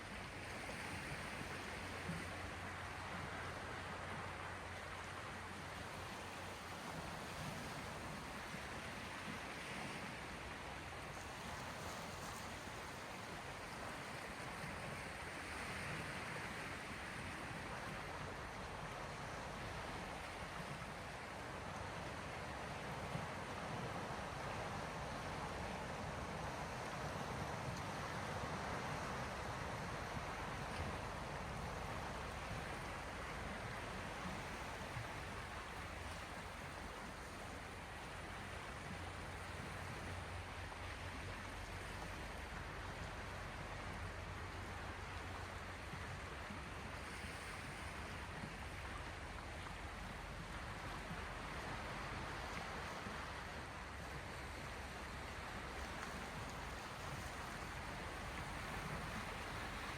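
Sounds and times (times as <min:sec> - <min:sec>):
small sea waves washing on shore: 0:00.0 - 0:59.9.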